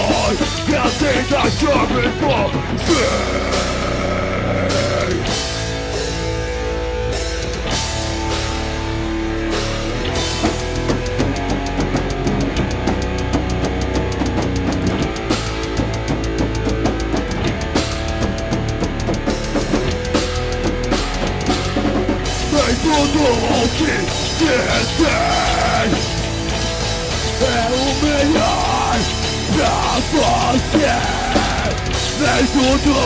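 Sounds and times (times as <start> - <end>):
bass guitar: 0.0 - 33.0
drum kit: 0.0 - 33.0
electric guitars: 0.0 - 33.0.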